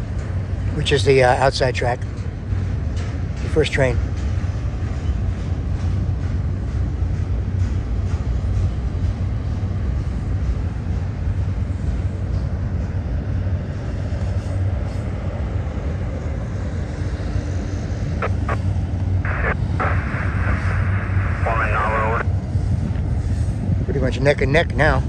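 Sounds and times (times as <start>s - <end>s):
freight trains rumbling: 0.0s - 25.0s.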